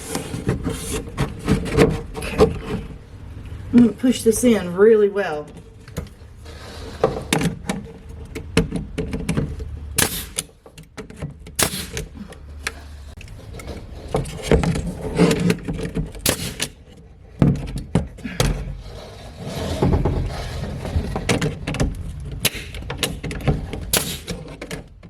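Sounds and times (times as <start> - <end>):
knocks clicks and scrapes: 0.0 - 3.9, 5.4 - 25.0.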